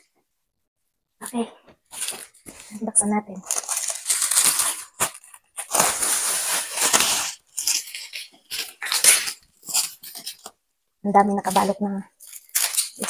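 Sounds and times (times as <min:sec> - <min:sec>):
plastic wrap crinkling: 0:01.2 - 0:10.6, 0:11.2 - 0:13.0.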